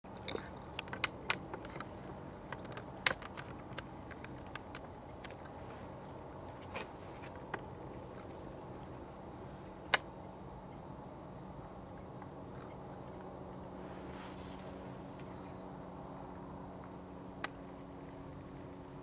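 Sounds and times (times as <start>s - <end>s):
faint steady hum: 0.1s - 19.0s.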